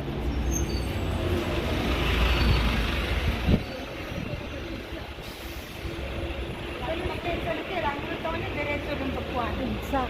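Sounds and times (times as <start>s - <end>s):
heavy vehicle rumbling: 0.0s - 10.0s.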